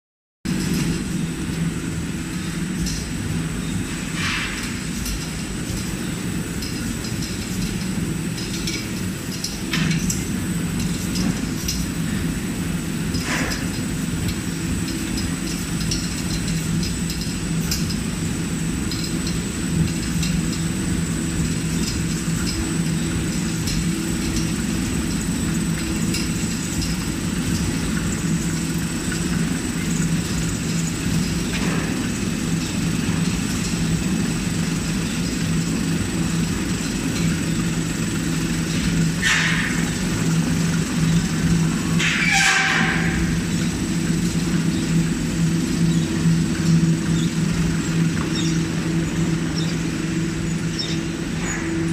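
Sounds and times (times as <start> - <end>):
electric motors humming: 0.5 - 51.9.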